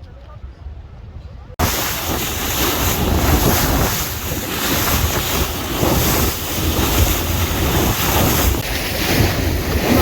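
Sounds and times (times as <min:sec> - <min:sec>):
wind buffeting microphone: 0:00.3 - 0:10.0.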